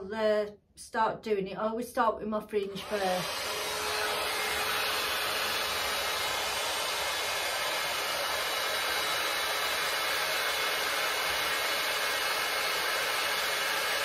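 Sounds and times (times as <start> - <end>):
hot air brush fan rushing: 2.8 - 14.0.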